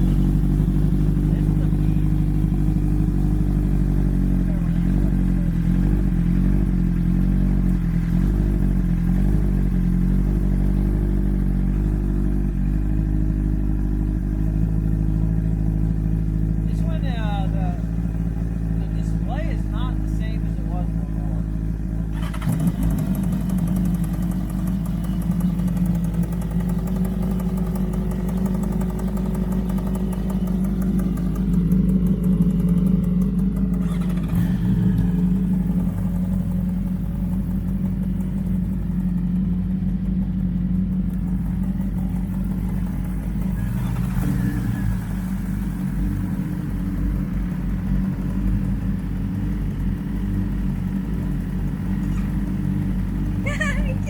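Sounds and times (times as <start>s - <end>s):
motorcycle engines idling: 0.0s - 54.0s.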